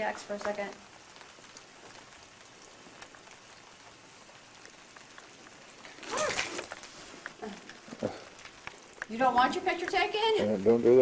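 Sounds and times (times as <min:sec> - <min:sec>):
steady rain falling: 0:00.0 - 0:11.0
water drips: 0:00.0 - 0:11.0.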